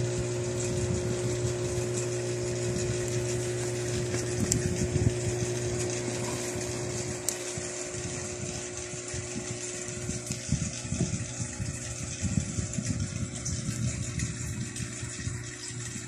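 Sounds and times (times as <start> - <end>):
air pump humming: 0.0 - 16.0.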